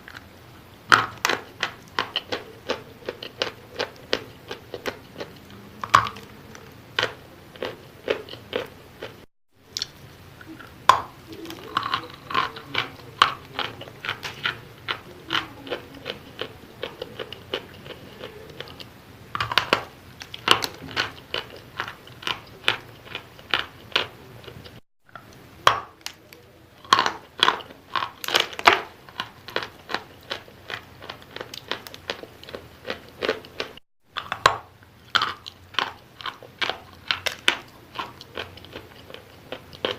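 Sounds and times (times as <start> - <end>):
crisp chewing crunches: 0.9 - 39.9.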